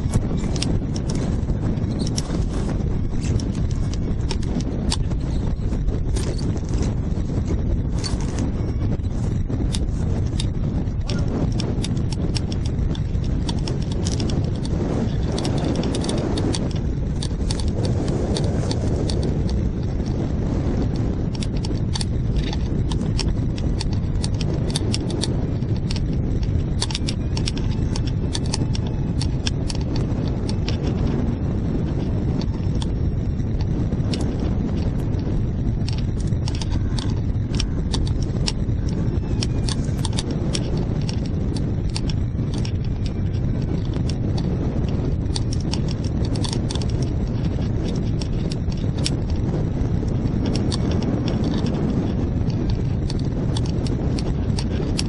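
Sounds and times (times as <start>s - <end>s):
sharp clicks and rattles: 0.0s - 55.0s
wind buffeting microphone: 0.0s - 55.0s.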